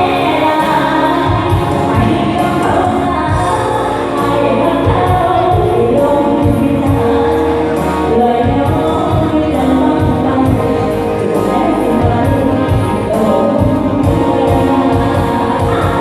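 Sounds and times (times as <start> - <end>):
live band playing: 0.0 - 16.0
person singing: 0.0 - 16.0
steady drum beat: 0.0 - 16.0.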